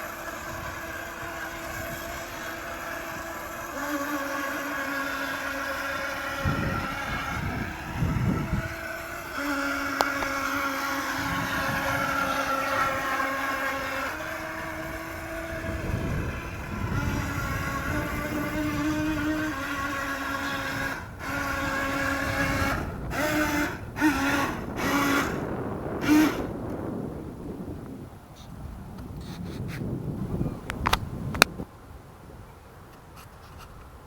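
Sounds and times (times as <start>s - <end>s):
toy boat motors whining: 0.0s - 27.5s
low rumbling bursts: 0.0s - 28.2s.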